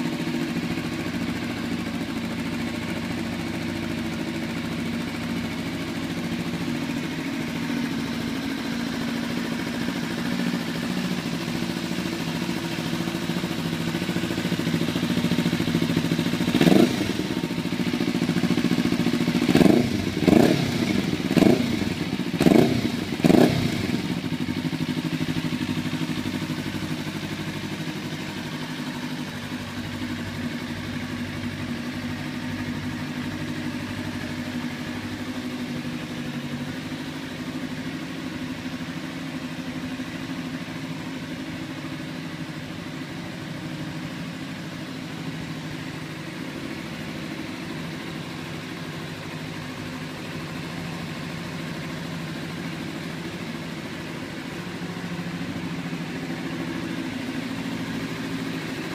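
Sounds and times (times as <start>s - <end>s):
motorcycle engine idling: 0.0s - 58.9s.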